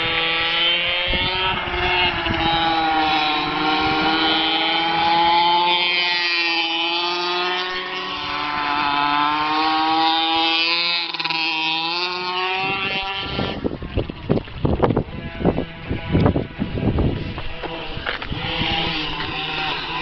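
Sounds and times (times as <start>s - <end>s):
small two-stroke engine revving: 0.0s - 20.0s.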